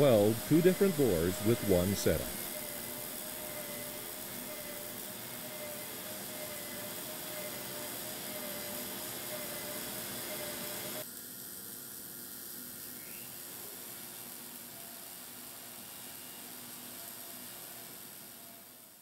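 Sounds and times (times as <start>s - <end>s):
welding hiss: 0.0s - 19.0s.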